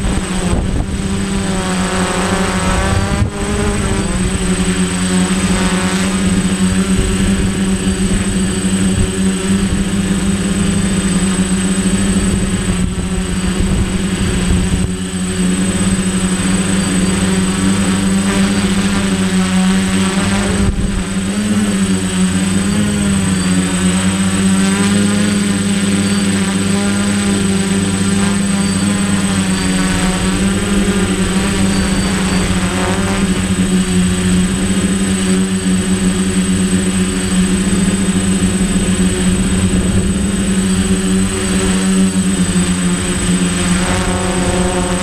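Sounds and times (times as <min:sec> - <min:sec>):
wind buffeting microphone: 0:00.0 - 0:05.6, 0:06.2 - 0:23.4, 0:26.7 - 0:45.0
drone motors buzzing: 0:00.0 - 0:45.0.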